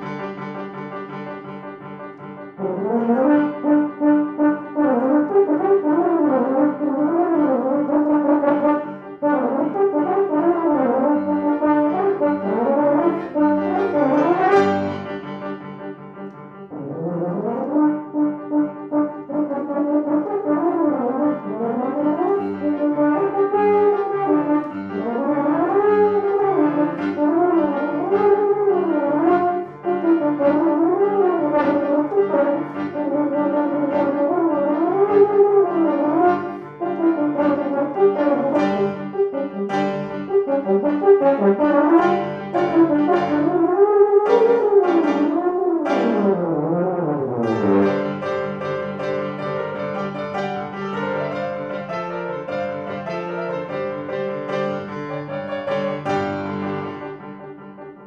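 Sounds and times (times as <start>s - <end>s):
piano accompaniment: 0.0s - 58.0s.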